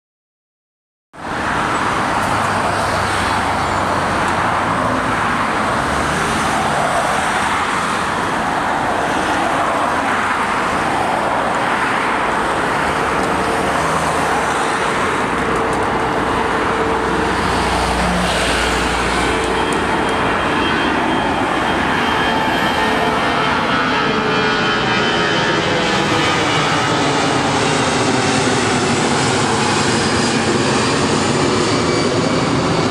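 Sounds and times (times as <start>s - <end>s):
jet engines roaring: 1.2s - 32.9s.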